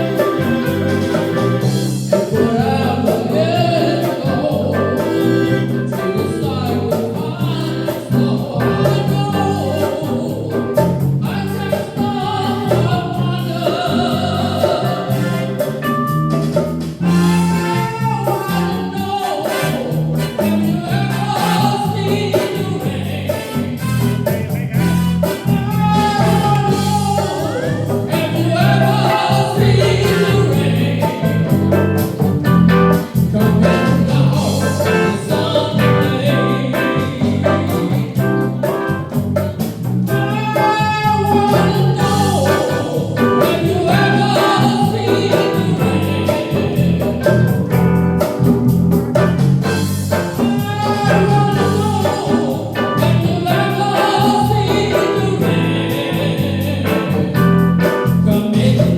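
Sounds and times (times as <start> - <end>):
person singing: 0.0 - 16.1, 17.0 - 48.4, 50.1 - 58.9
bass and drum beat: 0.0 - 58.9
rock band playing: 0.0 - 58.9.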